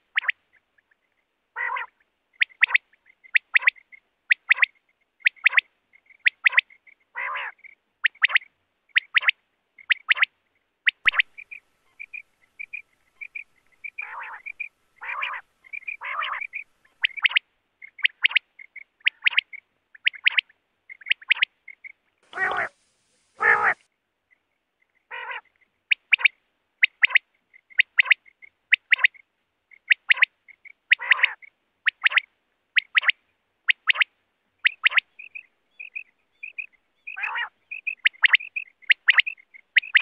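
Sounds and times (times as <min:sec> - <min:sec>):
quails calling: 0:00.0 - 0:01.0, 0:01.6 - 0:23.8, 0:24.9 - 0:40.0.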